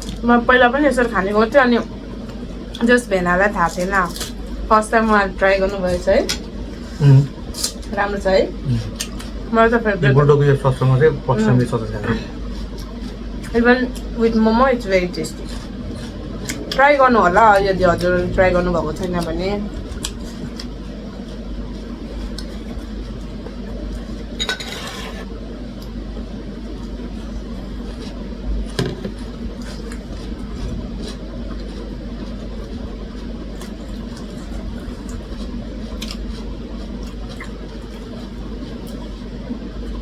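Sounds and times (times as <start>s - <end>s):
low hum: 0.0s - 40.0s.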